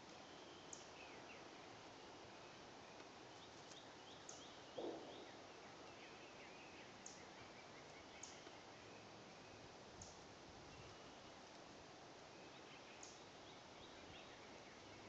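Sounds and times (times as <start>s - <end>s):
small birds chirping: 0.0s - 11.6s, 12.2s - 15.0s.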